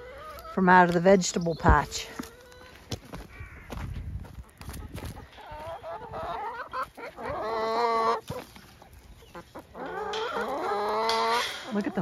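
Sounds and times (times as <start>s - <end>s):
chickens clucking and calling: 0.0s - 12.0s.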